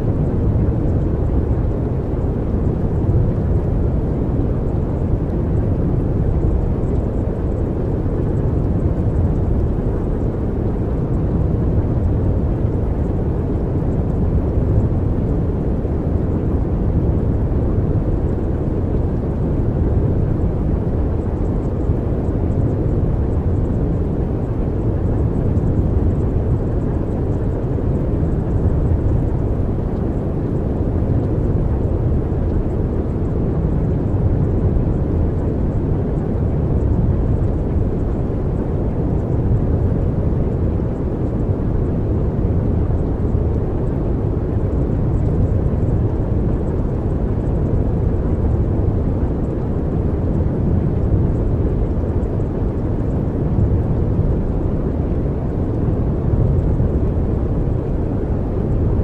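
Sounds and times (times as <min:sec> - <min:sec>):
steady low rumbling noise: 0:00.0 - 0:59.0.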